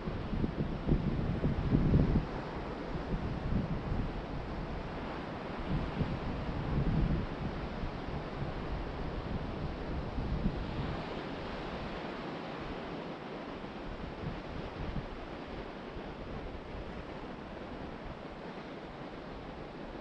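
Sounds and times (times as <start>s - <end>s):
wind buffeting microphone: 0.0s - 12.0s, 13.7s - 20.0s.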